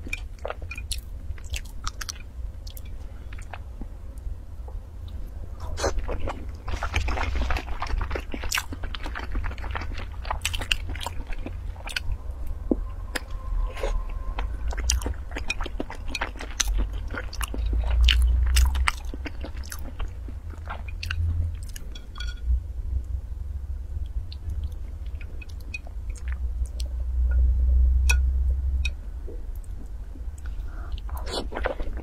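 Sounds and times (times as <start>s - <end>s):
low rumble: 0.0s - 32.0s.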